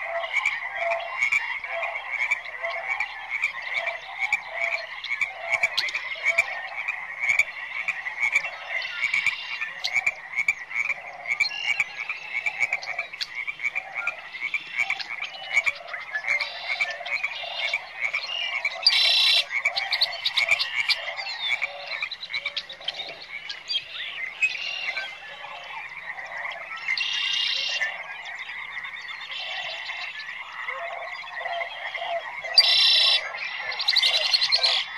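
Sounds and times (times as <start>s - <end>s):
frogs calling: 0.0s - 34.9s.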